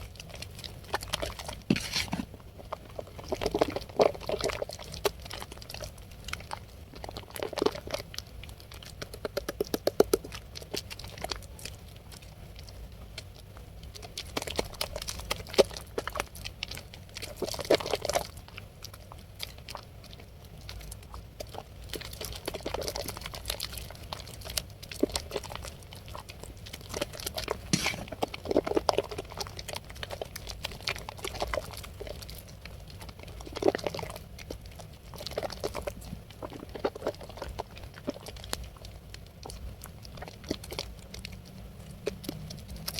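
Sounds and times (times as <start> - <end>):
wet soap squishing and crackling: 0.0 - 42.9.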